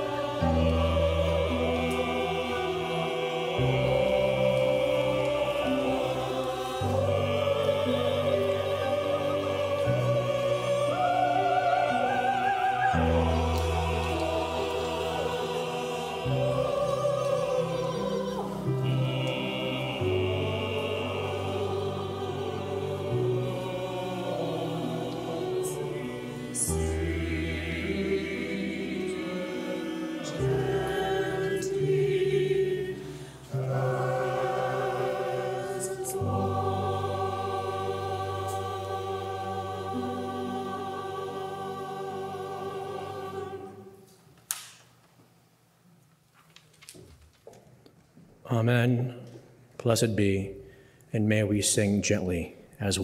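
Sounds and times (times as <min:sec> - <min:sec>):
piano accompaniment: 0:00.0 - 0:43.8
mixed choir singing: 0:00.0 - 0:44.2.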